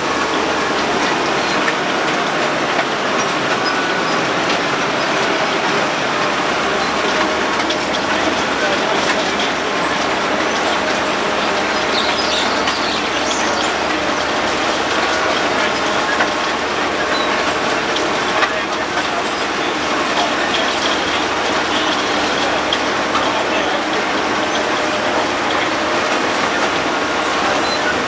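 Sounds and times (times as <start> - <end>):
machine engine hum: 0.0 - 28.0
road planer milling asphalt: 0.0 - 28.0.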